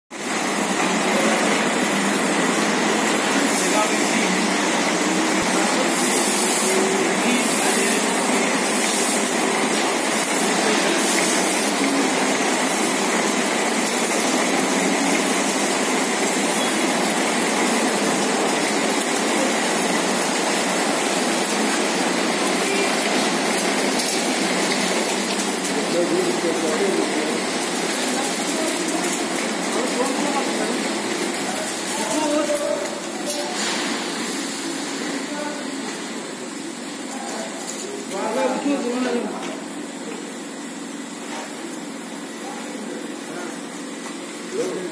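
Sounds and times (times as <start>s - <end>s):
fertilizer bagging line running: 0.2s - 41.0s.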